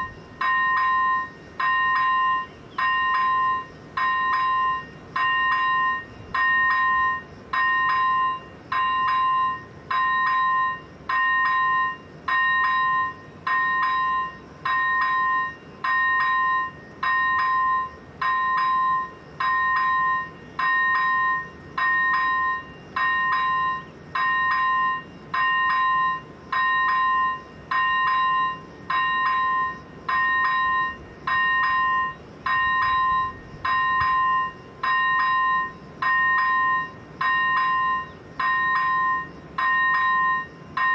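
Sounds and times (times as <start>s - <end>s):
level crossing warning bell: 0.0s - 40.9s.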